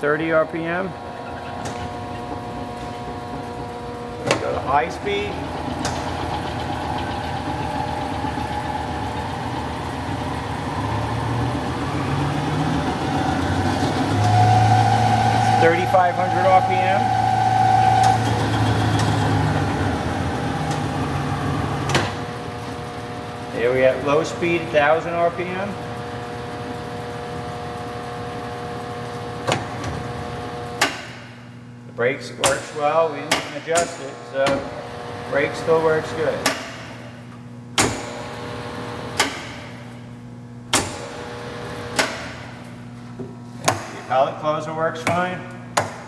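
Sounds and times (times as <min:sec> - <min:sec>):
lathe motor running: 0:00.0 - 0:31.9, 0:32.5 - 0:46.0
steady low hum: 0:00.0 - 0:46.0.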